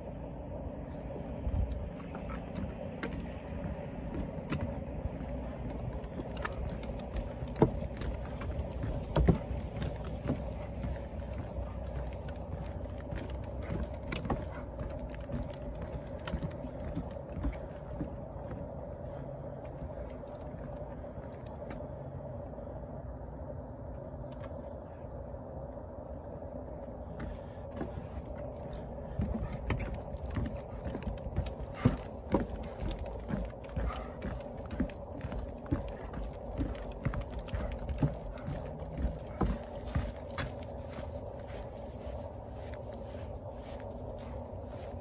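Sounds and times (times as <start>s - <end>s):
steady hum: 0.0s - 45.0s
footsteps on wooden boardwalk: 0.1s - 22.8s, 26.2s - 45.0s.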